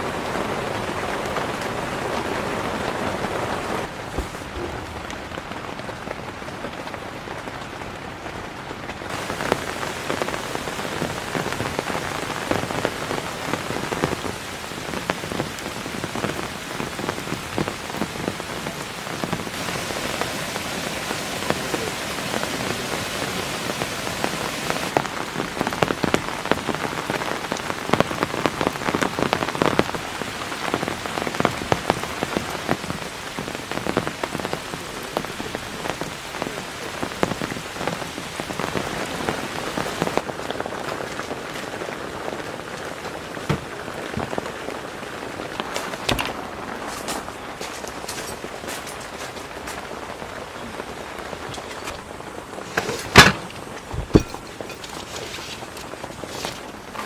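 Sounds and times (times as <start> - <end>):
heavy rain falling: 0.0 - 57.0
raindrops striking a surface: 0.0 - 57.0.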